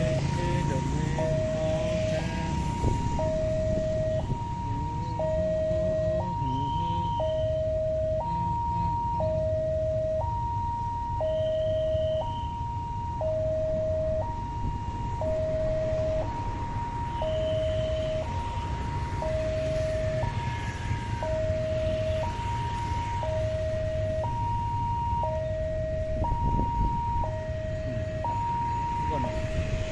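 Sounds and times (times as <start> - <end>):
steady low rumble: 0.0 - 29.9
two-tone electronic warning alarm: 0.0 - 29.9.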